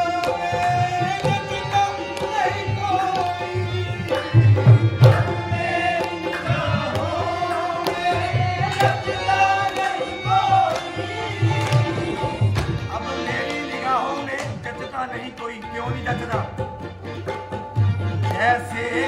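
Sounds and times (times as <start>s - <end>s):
man singing: 0.0s - 16.7s, 18.2s - 19.0s
harmonium chords: 0.0s - 19.0s.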